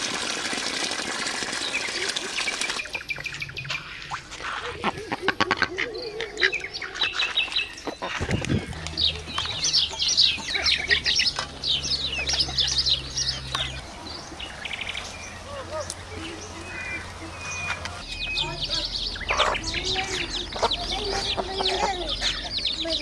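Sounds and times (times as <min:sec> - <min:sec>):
bird warbling call: 0:01.7 - 0:23.0
high-pitched bird chirping: 0:02.8 - 0:23.0.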